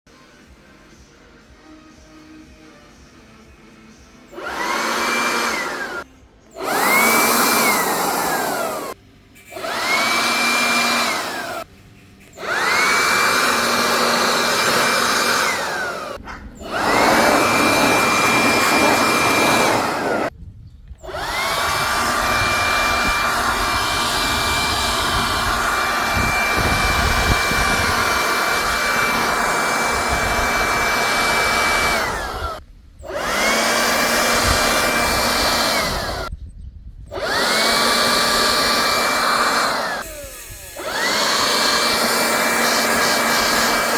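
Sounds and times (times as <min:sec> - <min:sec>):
garden blower-vacuum whining: 0:00.1 - 0:36.4, 0:37.0 - 0:43.9.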